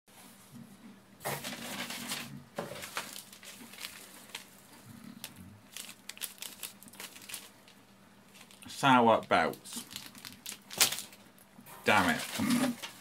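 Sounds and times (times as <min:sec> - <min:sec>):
plastic snack wrapper crinkling: 0:01.5 - 0:13.0.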